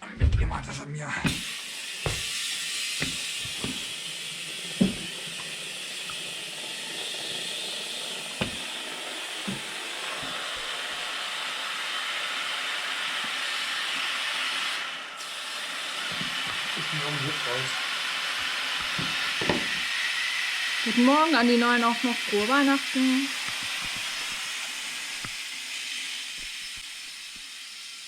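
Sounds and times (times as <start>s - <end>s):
compressed air hissing into tyre: 1.3s - 28.0s.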